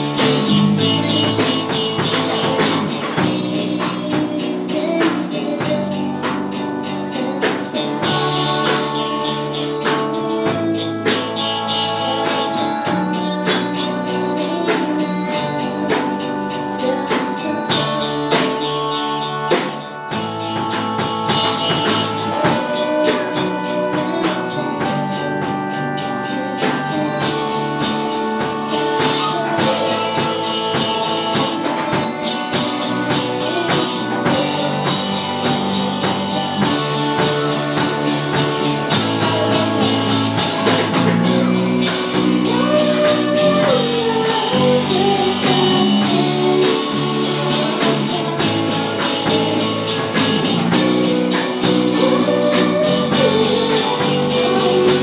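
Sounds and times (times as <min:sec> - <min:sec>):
boy singing: 0:00.0 - 0:55.0
live band playing: 0:00.0 - 0:55.0.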